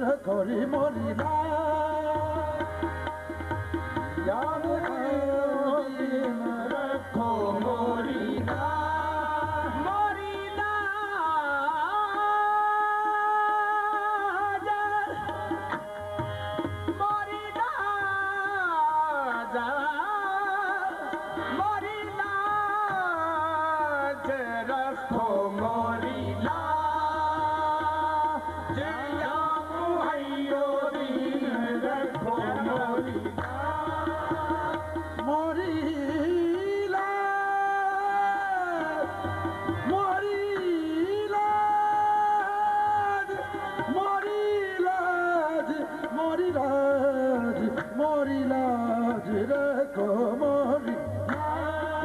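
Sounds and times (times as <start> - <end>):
harmonium chords: 0.0 - 52.0.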